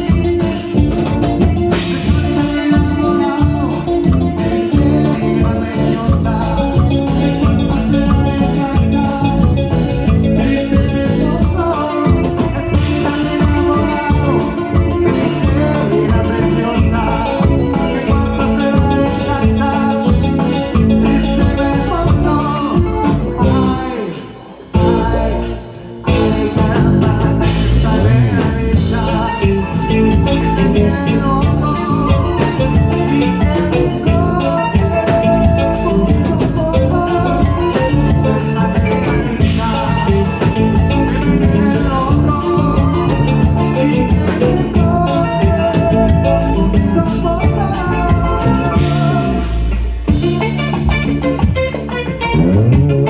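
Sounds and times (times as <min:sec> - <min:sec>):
latin music with steady beat: 0:00.0 - 0:53.0.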